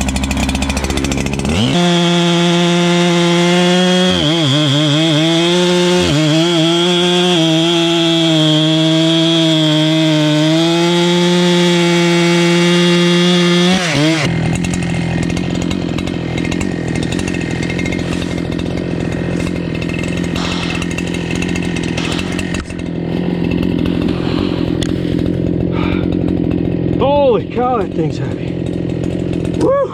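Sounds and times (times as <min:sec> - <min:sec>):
chainsaw cutting wood: 0:00.0 - 0:29.8.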